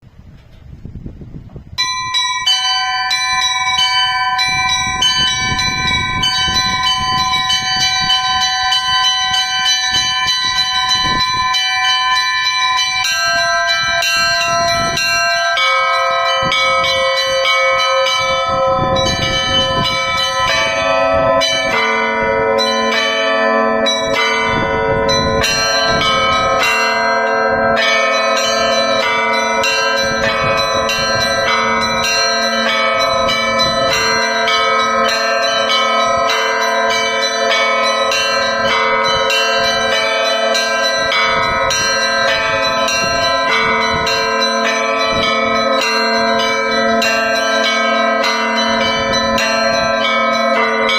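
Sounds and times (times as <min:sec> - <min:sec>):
low heavy church bells: 0:01.6 - 0:50.9
small high church bells: 0:01.7 - 0:50.9.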